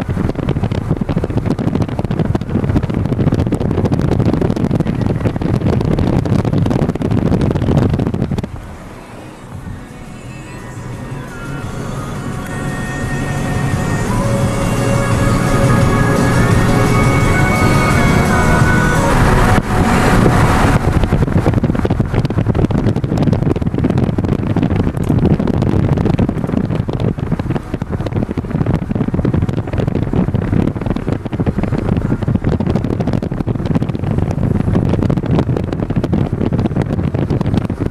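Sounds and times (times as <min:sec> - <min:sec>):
road noise rumble: 0:00.0 - 0:37.9
wind buffeting microphone: 0:00.0 - 0:37.9.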